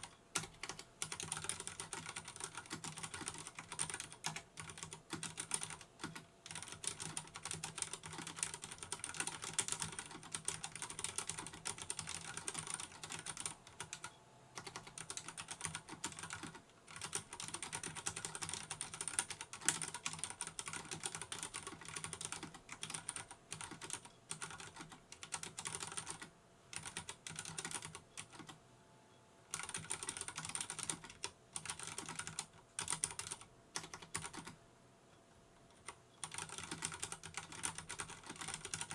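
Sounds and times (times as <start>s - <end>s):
fast typing on mechanical keyboard: 0.0s - 28.6s, 29.5s - 34.6s, 35.8s - 38.9s.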